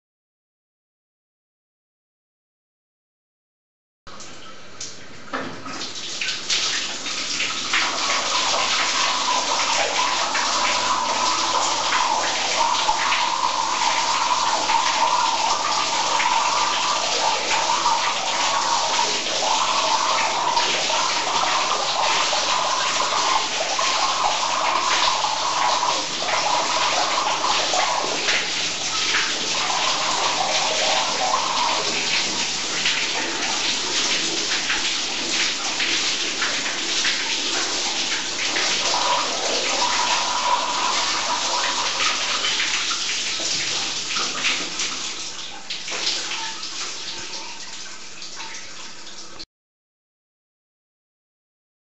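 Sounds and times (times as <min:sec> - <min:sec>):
water rushing and splashing: 0:05.9 - 0:49.3.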